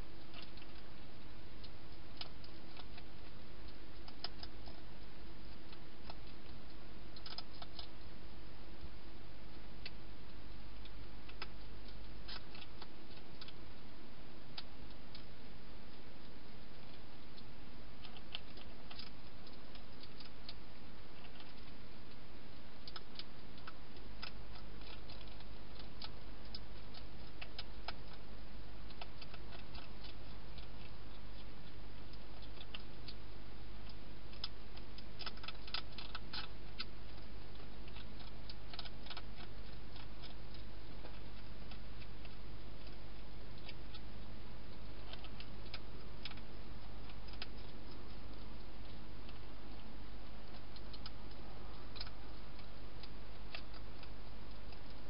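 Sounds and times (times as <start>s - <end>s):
hedgehog chewing dry food: 0.0s - 55.0s.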